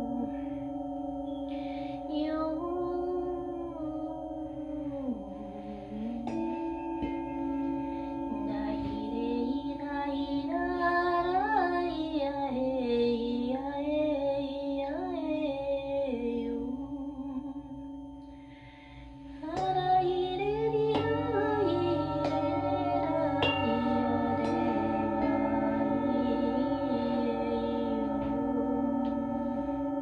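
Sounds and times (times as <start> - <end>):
singing bowl struck: 0.0 - 30.0
singing bowls ringing: 0.0 - 30.0
woman singing wordless melody: 0.0 - 30.0.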